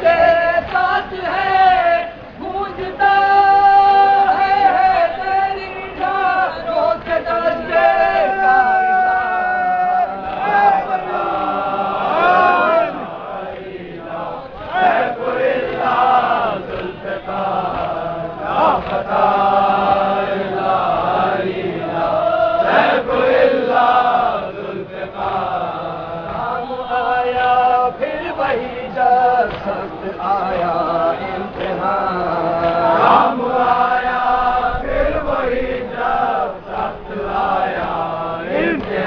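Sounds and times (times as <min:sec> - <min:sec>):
men chanting in chorus: 0:00.0 - 0:39.0.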